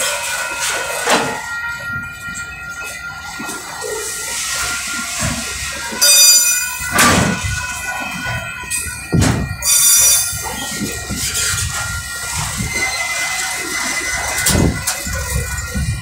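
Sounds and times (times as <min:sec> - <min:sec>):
train wheels clacking over rail joints: 0:00.0 - 0:16.0
wheel flanges squealing: 0:00.0 - 0:16.0.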